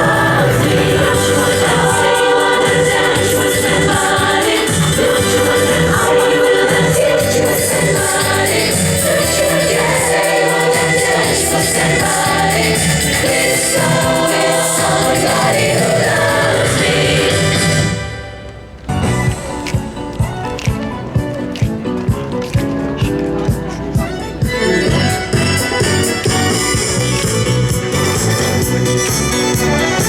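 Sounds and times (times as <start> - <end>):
gospel choir singing: 0.0 - 30.0.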